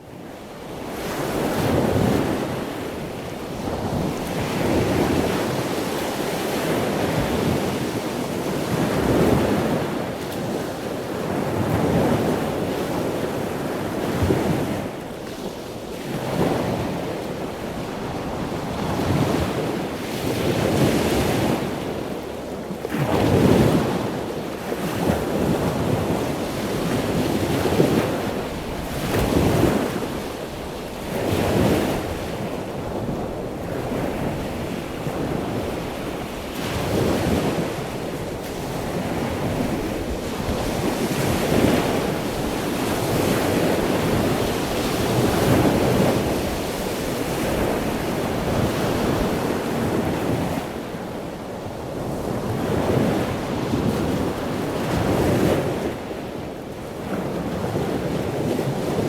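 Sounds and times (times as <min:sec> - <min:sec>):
ocean waves breaking: 0:00.6 - 0:59.0.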